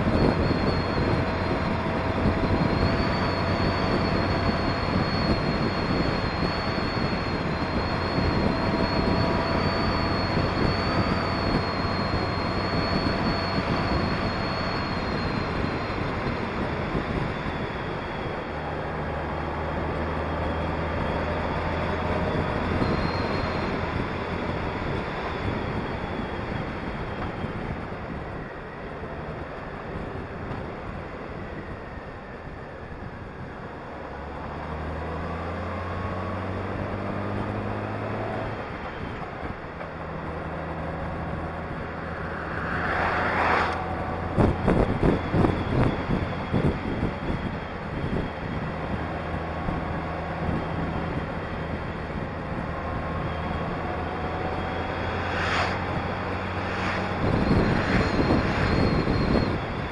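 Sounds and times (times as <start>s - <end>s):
wind on microphone: 0.0s - 59.9s.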